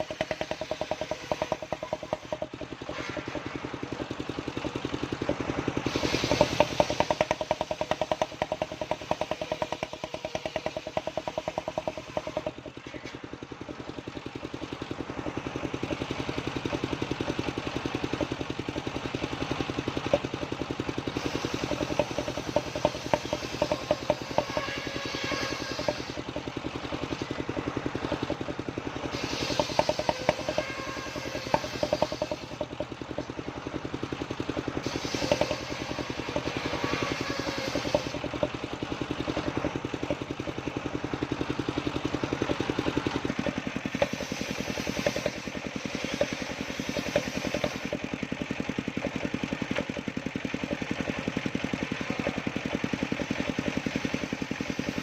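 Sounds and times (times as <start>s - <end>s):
saw cutting wood: 0.0s - 13.8s, 19.4s - 40.8s, 42.5s - 55.0s
sawmill engine running: 0.0s - 55.0s.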